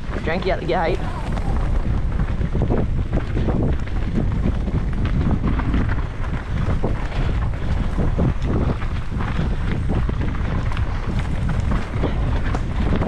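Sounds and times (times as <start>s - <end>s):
bike knocks and rattles: 0.0s - 13.0s
low rumble: 0.0s - 13.0s
wind buffeting microphone: 0.0s - 13.0s.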